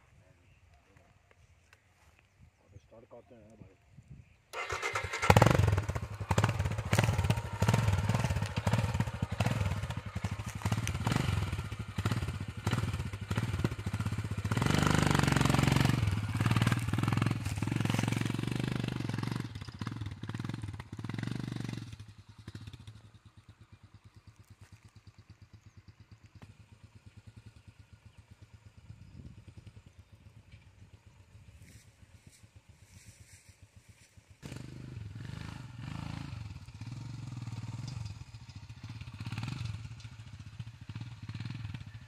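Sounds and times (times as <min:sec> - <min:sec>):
motorcycle engine revving: 0:04.5 - 0:42.0.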